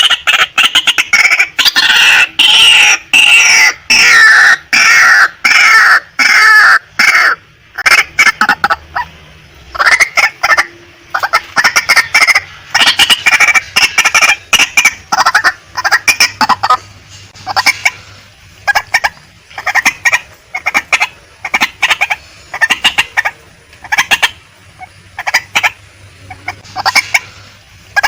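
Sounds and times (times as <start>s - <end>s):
waterhen harsh calls: 0.0s - 28.0s.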